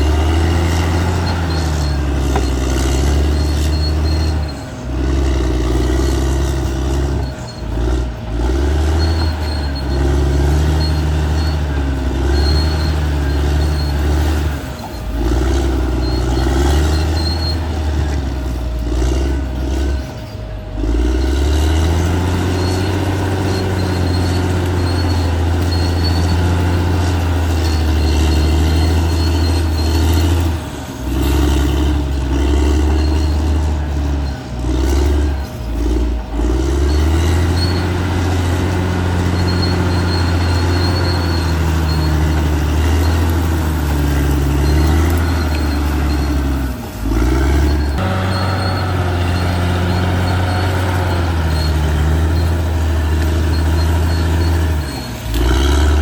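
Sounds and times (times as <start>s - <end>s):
bulldozer diesel engine working: 0.0s - 56.0s
faint high squeak: 8.8s - 56.0s.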